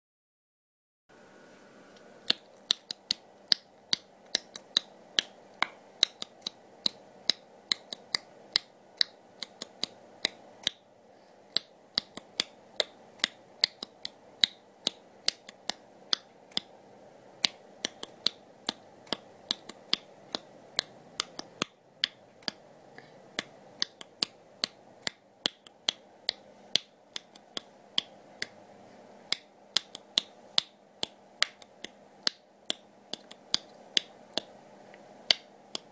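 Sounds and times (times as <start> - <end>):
faint steady hum: 1.1 - 35.9
sharp irregular clicks: 2.3 - 10.8, 11.5 - 16.7, 17.4 - 22.6, 23.4 - 28.6, 29.3 - 34.6, 35.3 - 35.9.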